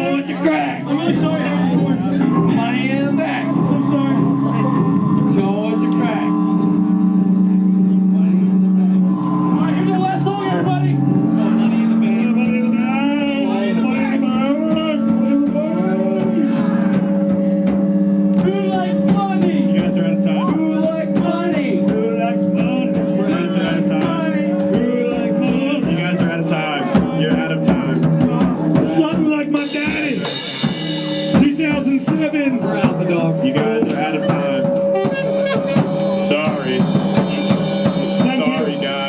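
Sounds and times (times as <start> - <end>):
bending lead guitar lines: 0.0 - 39.0
droning guitar chords: 0.0 - 39.0
drum hits: 0.0 - 39.0
experimental rock band playing: 0.0 - 39.0.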